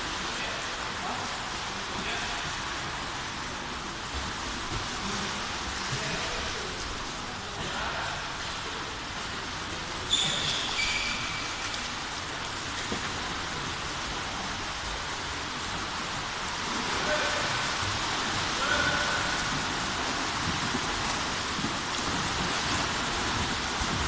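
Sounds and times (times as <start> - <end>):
splashing water echoing in pool: 0.0 - 24.0.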